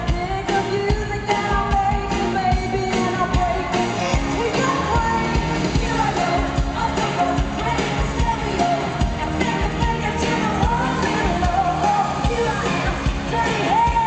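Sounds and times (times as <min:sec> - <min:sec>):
live pop-rock band: 0:00.0 - 0:14.0
steady drum beat: 0:00.0 - 0:14.0
women singing: 0:00.0 - 0:14.0.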